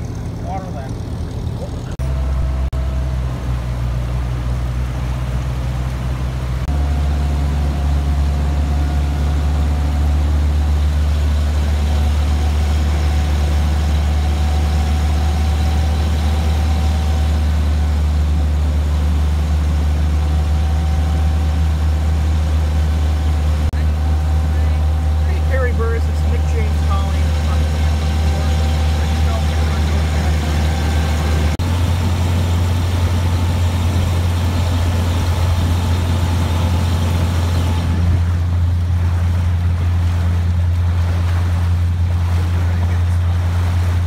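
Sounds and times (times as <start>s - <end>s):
boat engine low drone: 0.0s - 44.0s
faint engine whine: 0.0s - 44.0s.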